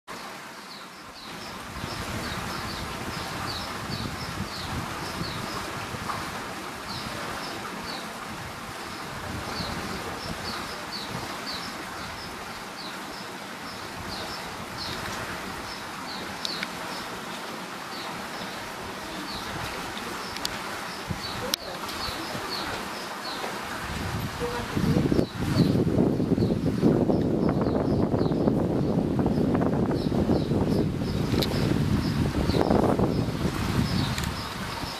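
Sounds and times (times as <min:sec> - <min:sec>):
birds chirping: 0:00.1 - 0:34.9
open-air hiss: 0:00.1 - 0:34.9.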